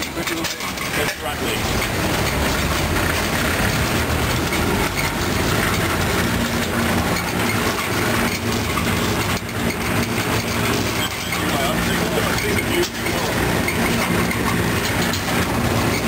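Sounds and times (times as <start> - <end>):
hoist cage rattling: 0.0 - 16.0
low motor hum: 0.8 - 16.0.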